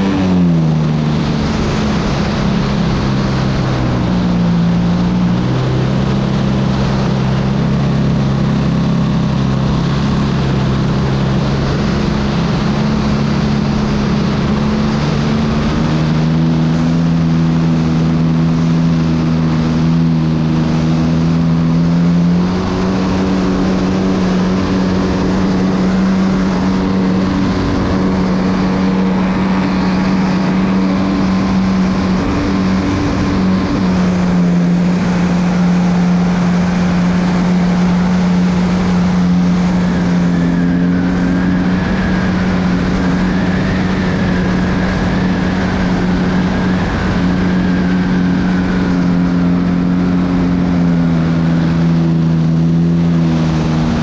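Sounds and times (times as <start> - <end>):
model airplane engine running: 0.0 - 54.0
wind rushing over microphone: 0.0 - 54.0.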